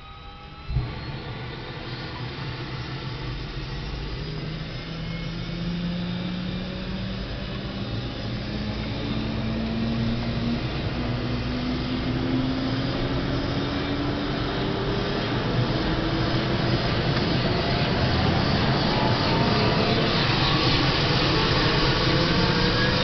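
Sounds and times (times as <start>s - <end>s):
helicopter turbine whine: 0.0s - 23.0s.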